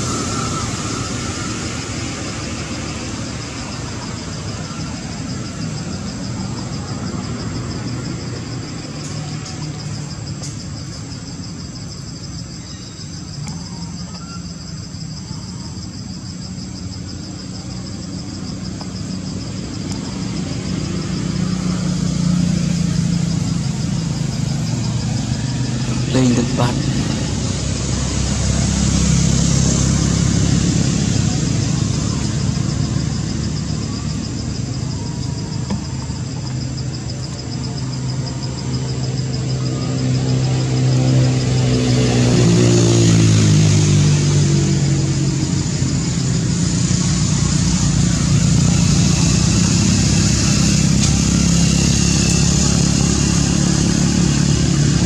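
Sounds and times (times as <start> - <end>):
vehicle engine humming: 0.0 - 12.4, 15.9 - 55.0.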